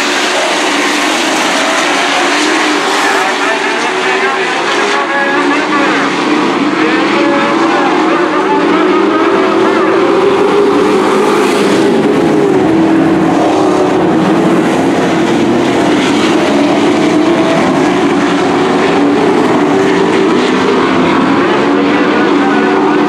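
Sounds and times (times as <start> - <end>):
racing truck engines: 0.0 - 23.0.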